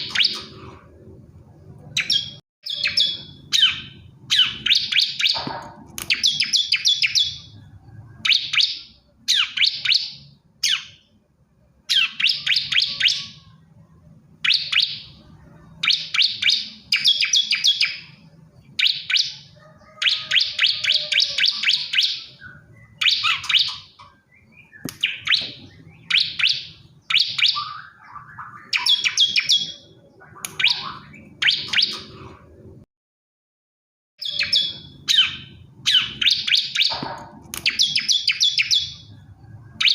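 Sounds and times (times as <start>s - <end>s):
bird singing high chirps: 0.0s - 0.8s, 1.8s - 11.2s, 11.8s - 32.7s, 34.2s - 39.9s.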